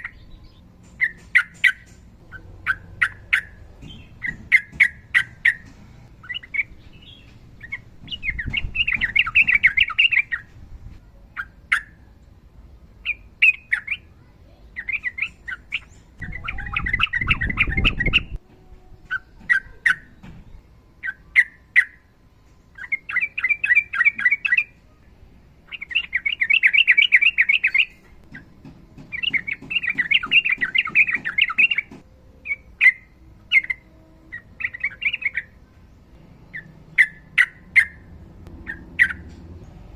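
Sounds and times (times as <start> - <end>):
bird chirping and trilling: 0.0 - 10.6, 11.3 - 12.2, 13.0 - 18.4, 19.0 - 22.1, 22.7 - 39.8.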